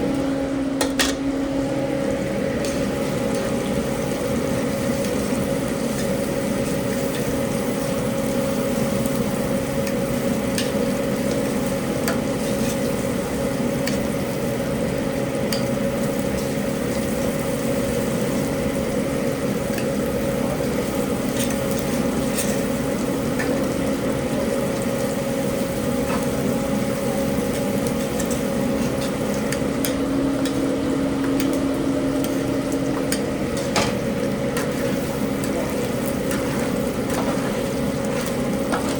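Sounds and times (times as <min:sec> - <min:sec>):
steady mechanical hum: 0:00.0 - 0:38.9
food frying and sizzling: 0:01.4 - 0:38.9.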